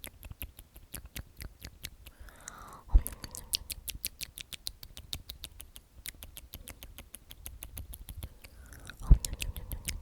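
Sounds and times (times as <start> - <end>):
wet lip and tongue clicks: 0.0 - 10.0.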